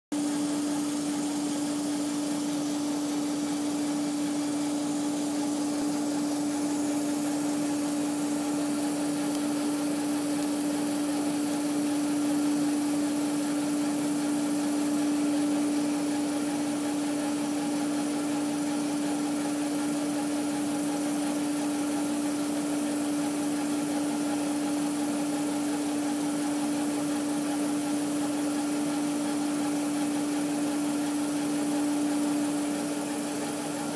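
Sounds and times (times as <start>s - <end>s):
laser engraver humming: 0.1s - 33.9s.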